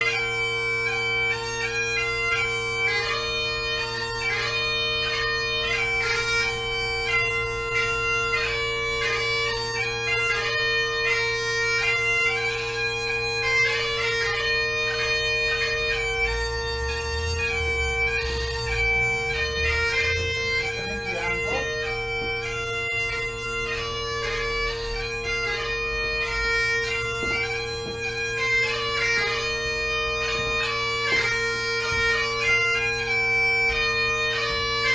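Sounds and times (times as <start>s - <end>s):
bagpipes playing a tune: 0.0s - 34.9s.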